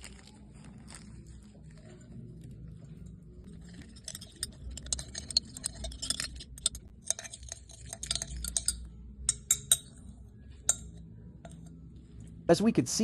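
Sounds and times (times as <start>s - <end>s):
utensil clinking against glass: 0.9s - 11.8s.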